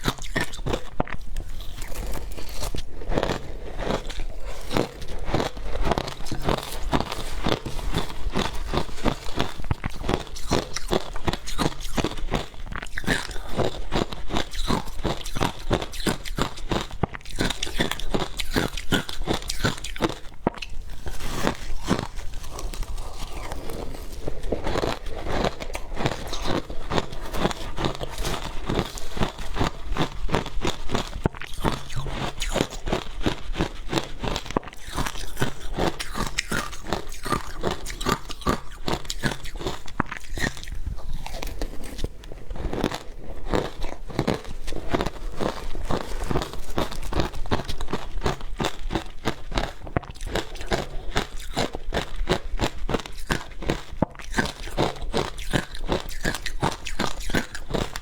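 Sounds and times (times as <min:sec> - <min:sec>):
crisp ice crunching: 0:00.0 - 0:52.4.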